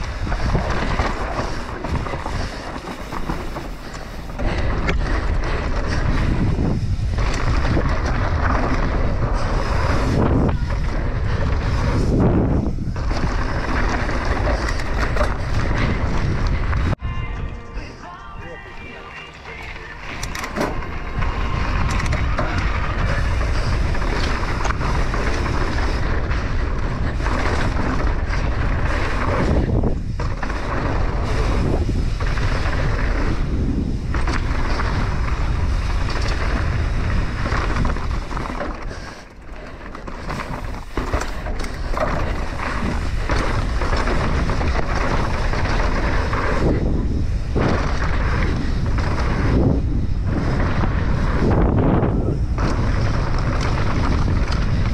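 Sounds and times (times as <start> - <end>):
bike rattling over bumps: 0.0 - 17.0, 19.6 - 54.9
wind buffeting microphone: 0.0 - 17.0, 20.2 - 54.9.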